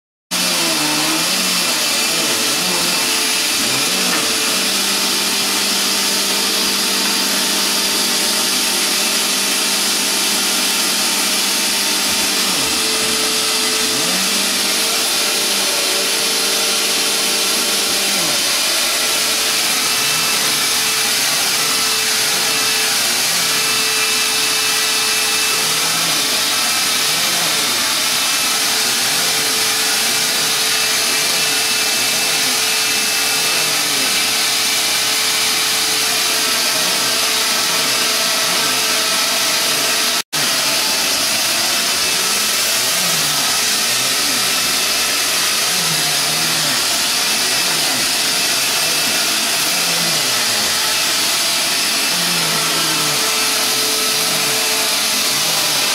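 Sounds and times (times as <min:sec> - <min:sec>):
vacuum cleaner running over carpet: 0:00.4 - 0:55.9.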